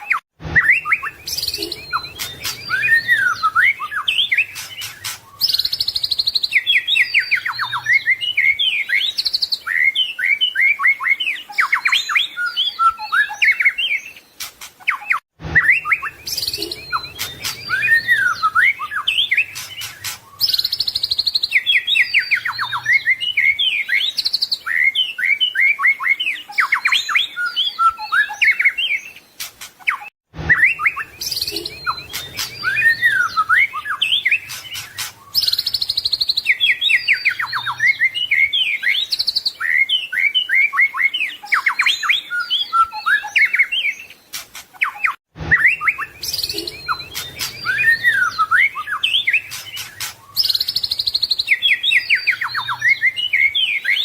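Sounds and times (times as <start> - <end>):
songbird singing whistles and trills: 0.0 - 54.0.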